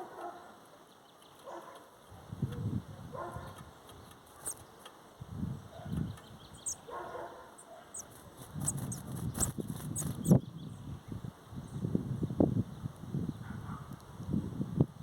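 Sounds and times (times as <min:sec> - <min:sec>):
small birds chirping: 0:00.0 - 0:14.3.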